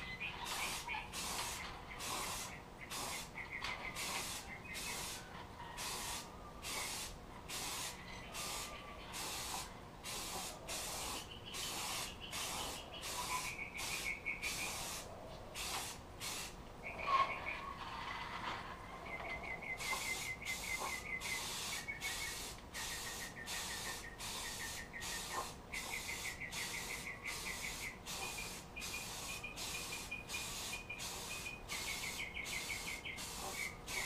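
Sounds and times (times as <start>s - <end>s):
aerosol can spraying bursts: 0.4s - 5.2s, 5.8s - 16.6s, 19.8s - 34.0s.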